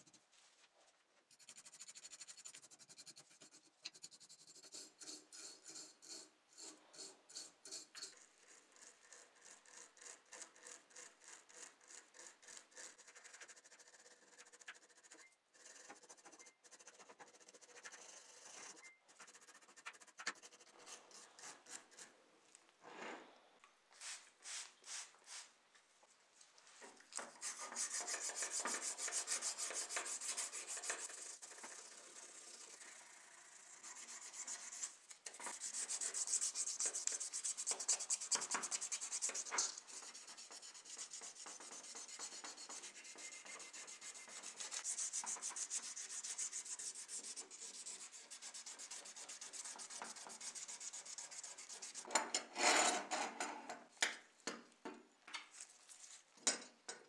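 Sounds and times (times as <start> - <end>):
scratchy rubbing on metal: 1.3 - 22.1, 27.2 - 53.3.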